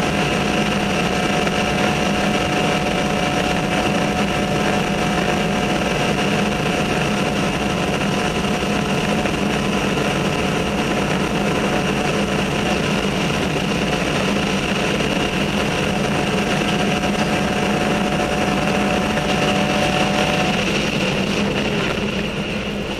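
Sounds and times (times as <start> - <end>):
race car engine: 0.0 - 22.9
wind and tyre noise: 0.0 - 22.9.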